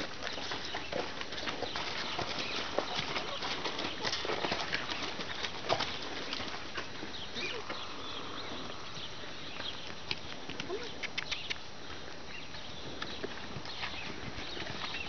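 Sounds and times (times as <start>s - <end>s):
hoofbeats on dirt and gravel: 0.0s - 15.0s.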